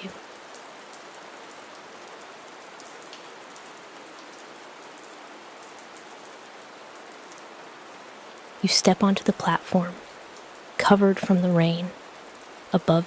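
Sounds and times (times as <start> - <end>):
soft steady rain: 0.0 - 13.0.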